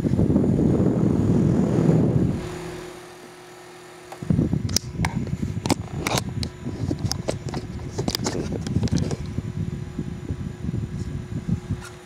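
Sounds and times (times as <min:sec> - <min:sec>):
fan airflow buffeting microphone: 0:00.0 - 0:12.0
fan motor hum: 0:00.0 - 0:12.0.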